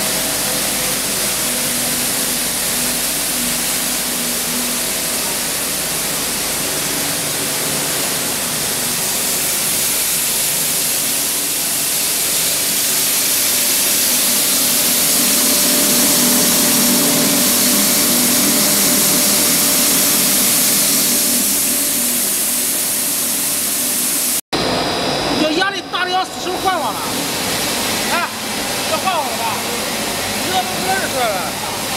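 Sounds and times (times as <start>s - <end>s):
low machinery hum: 0.0s - 31.9s
machinery hissing: 0.0s - 31.9s.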